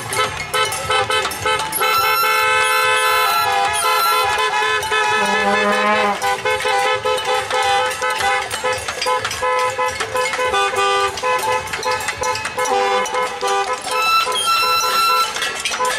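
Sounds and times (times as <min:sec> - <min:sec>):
car horns honking: 0:00.0 - 0:15.9
noisemakers knocking and clanging: 0:00.0 - 0:15.9.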